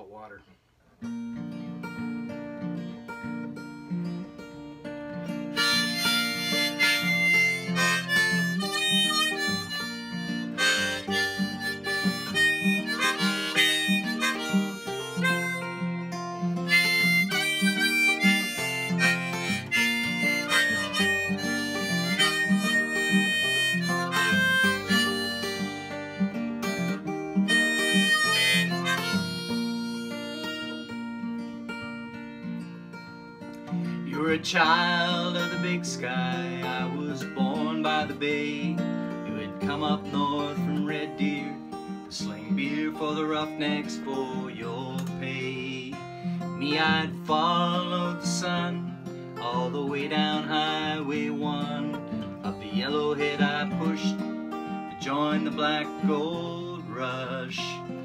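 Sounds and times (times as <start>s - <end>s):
strummed acoustic guitar: 0.1s - 58.0s
harmonica melody: 1.5s - 58.0s.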